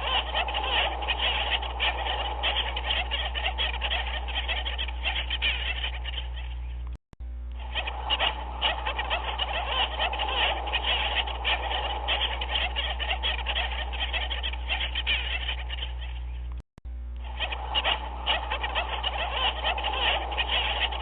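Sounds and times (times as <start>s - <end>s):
chorus of animals calling: 0.0s - 6.9s, 7.6s - 16.5s, 17.2s - 21.0s
steady low hum: 0.0s - 21.0s.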